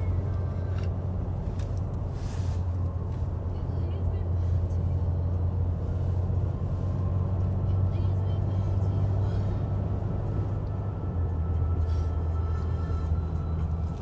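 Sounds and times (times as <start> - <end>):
car engine and tyre drone: 0.0 - 14.0.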